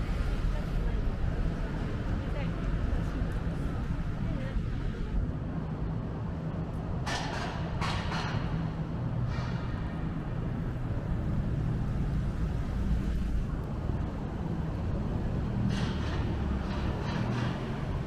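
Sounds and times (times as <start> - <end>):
low rumble of traffic: 0.0 - 18.0
vehicles passing with hiss: 0.0 - 18.0.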